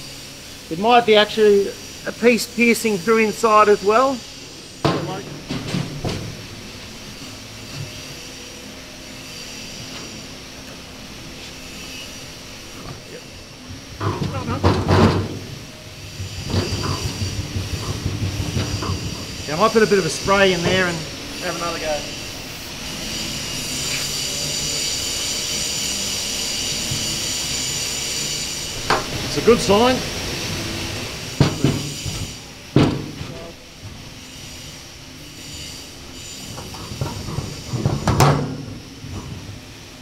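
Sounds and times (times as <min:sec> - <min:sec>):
machine-like hum: 0:00.0 - 0:40.0.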